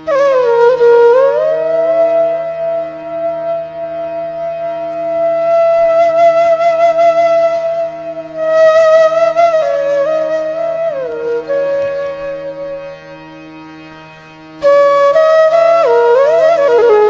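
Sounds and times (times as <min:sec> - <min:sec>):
flute music: 0:00.0 - 0:17.0.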